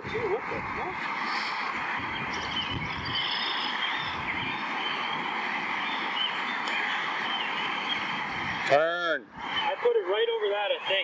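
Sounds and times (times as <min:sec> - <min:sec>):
frogs calling: 0:00.0 - 0:10.1
wind rumbling on microphone: 0:00.0 - 0:11.0.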